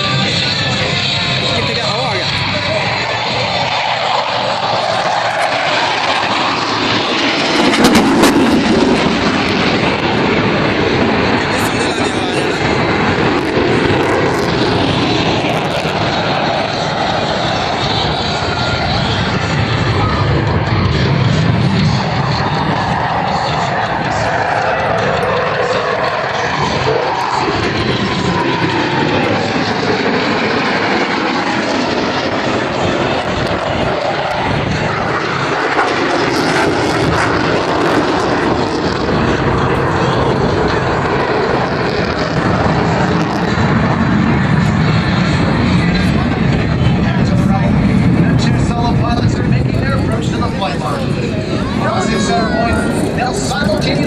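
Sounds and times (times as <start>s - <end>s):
jets flying past roaring: 0.0s - 54.0s.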